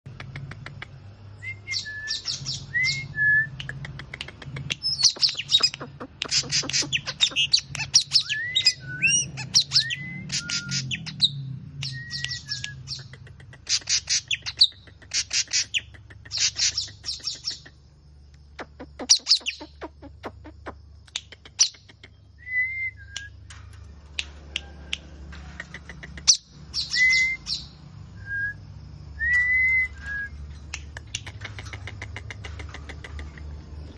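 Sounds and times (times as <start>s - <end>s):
songbird singing: 0.1s - 33.9s.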